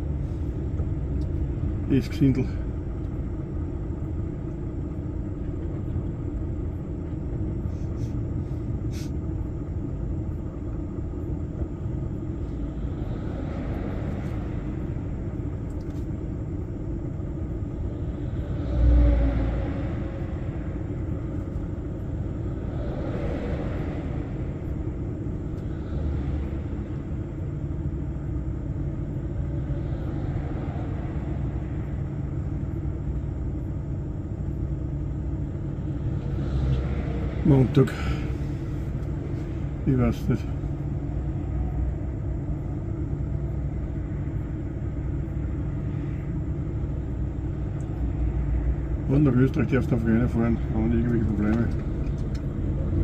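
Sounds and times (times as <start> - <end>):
lorry rumble inside cab: 0.0 - 53.0
passing traffic: 0.0 - 53.0.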